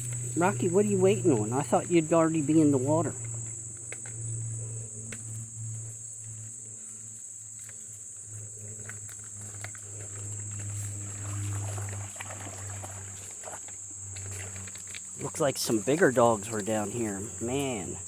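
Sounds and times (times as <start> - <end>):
crickets trilling: 0.0 - 18.0
low steady hum: 0.0 - 18.0.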